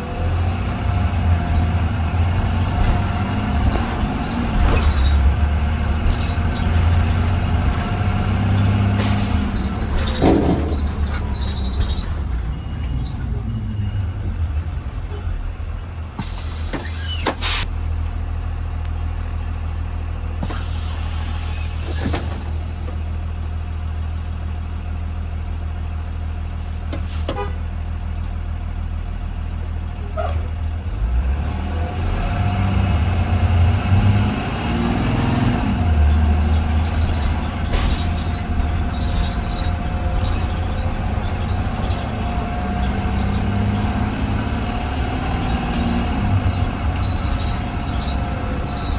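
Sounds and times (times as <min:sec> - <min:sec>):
clunks and rattles: 0:00.0 - 0:23.3, 0:25.5 - 0:48.9
bus engine running: 0:00.0 - 0:48.9.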